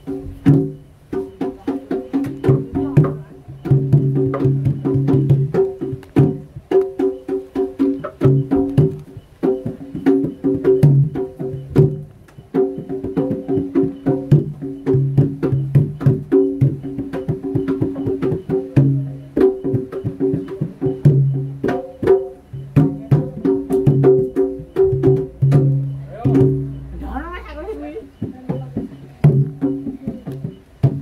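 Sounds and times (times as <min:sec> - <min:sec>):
fast dense percussion music: 0:00.0 - 0:31.0.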